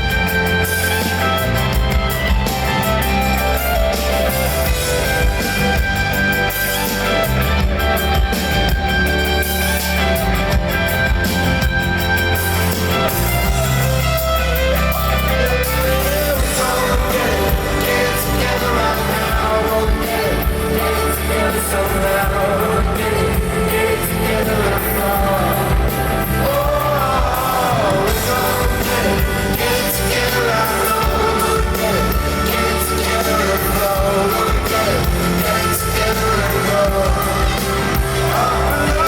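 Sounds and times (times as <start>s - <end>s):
electric guitar: 0.0s - 39.0s
live rock band playing: 0.0s - 39.0s.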